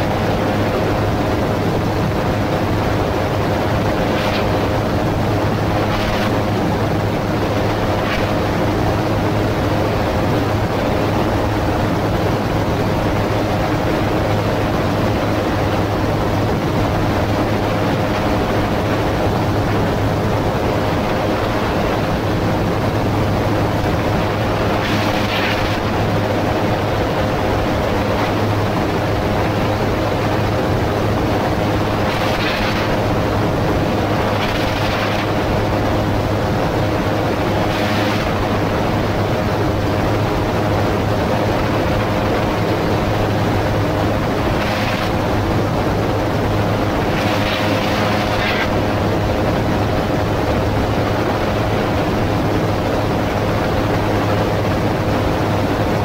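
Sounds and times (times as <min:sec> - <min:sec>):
propeller engine drone: 0:00.0 - 0:56.0.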